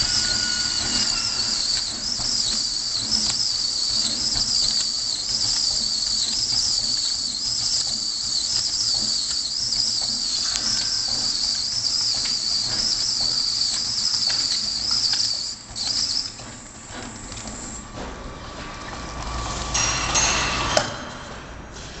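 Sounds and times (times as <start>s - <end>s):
wrapping machine whining: 0.0s - 20.7s
low machine hum: 0.0s - 22.0s.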